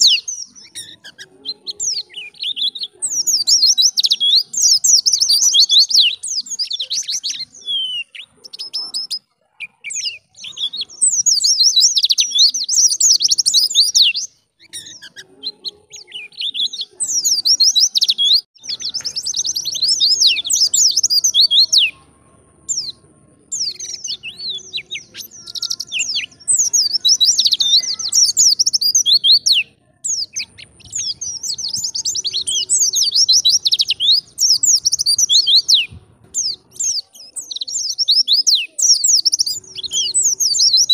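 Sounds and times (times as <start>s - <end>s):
white-eye twittering song: 0.0s - 40.9s.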